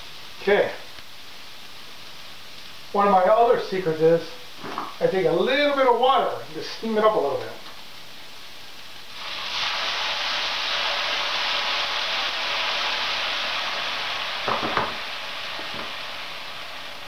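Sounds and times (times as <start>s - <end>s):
water sizzling in hot pan: 0.0s - 17.0s.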